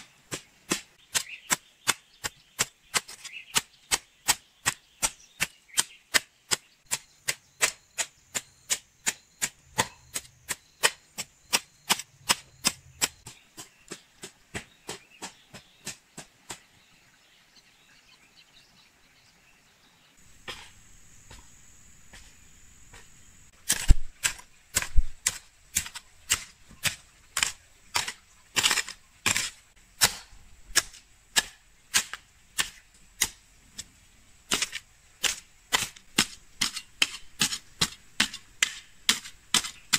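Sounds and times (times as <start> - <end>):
hoe chopping into soil: 0.3 - 16.7, 22.1 - 33.9, 34.5 - 39.9.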